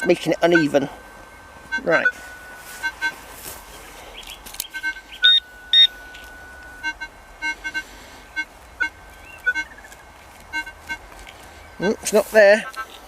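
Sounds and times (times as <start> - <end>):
metal detector beeps: 0.0 - 1.0, 1.6 - 13.0
metal detector held tone: 0.0 - 1.0, 1.6 - 13.0.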